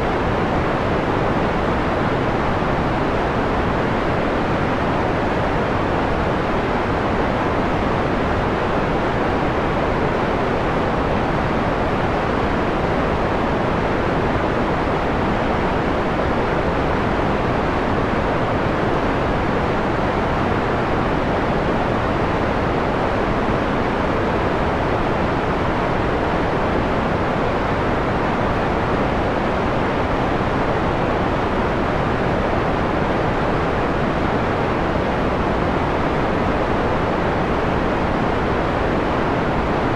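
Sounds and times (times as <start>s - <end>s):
muffled white noise: 0.0s - 39.9s.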